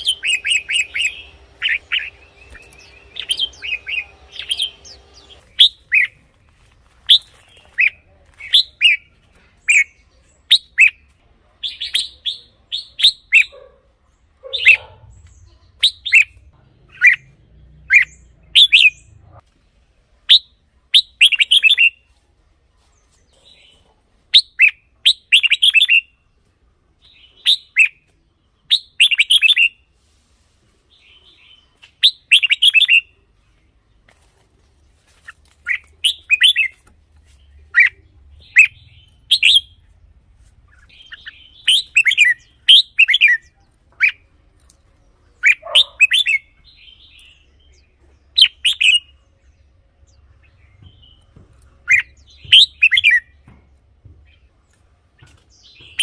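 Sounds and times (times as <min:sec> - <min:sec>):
bulbul singing: 0:00.0 - 0:13.6, 0:14.4 - 0:19.4, 0:20.3 - 0:22.0, 0:23.3 - 0:26.2, 0:27.0 - 0:29.9, 0:31.0 - 0:33.3, 0:35.6 - 0:54.5.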